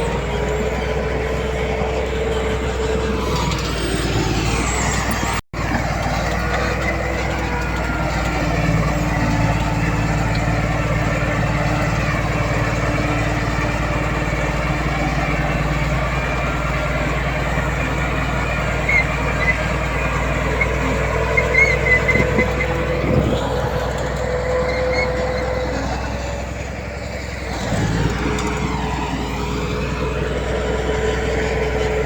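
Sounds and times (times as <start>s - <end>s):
heavy machinery diesel engines: 0.0s - 32.0s.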